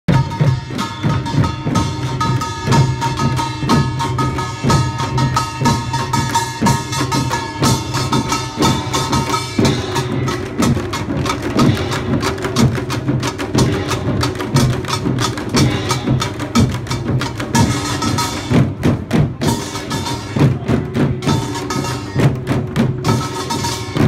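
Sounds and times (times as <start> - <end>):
drum group playing: 0.1 - 24.0.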